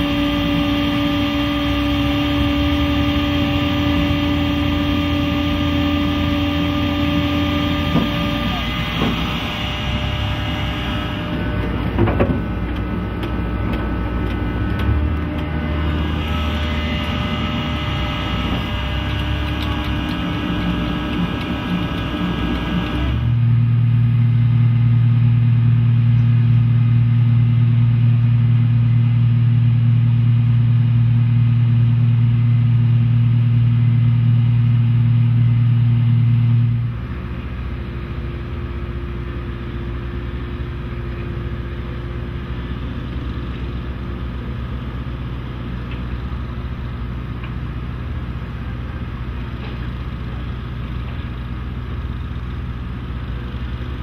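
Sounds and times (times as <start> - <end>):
diesel engine humming: 0.0 - 54.0
quieter engine rumble: 0.0 - 54.0.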